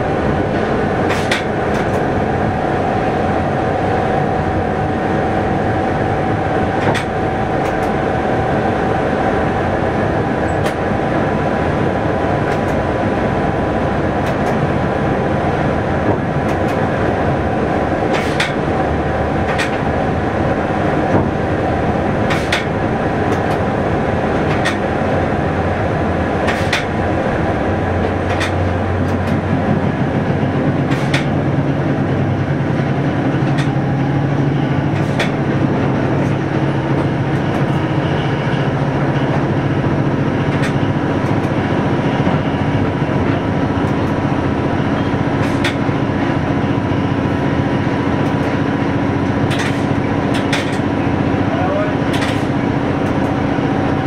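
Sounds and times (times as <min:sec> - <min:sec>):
train running on track: 0:00.0 - 0:54.0.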